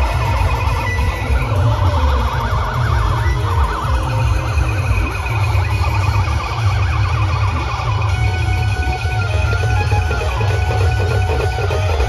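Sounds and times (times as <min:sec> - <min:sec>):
loud band music with heavy bass: 0:00.0 - 0:12.0.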